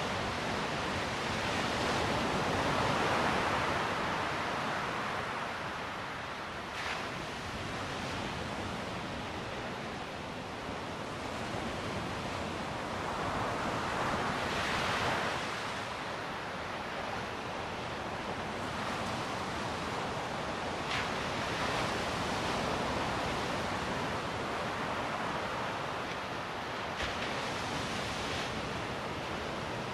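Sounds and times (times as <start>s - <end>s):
ocean waves breaking on beach: 0.0s - 29.9s.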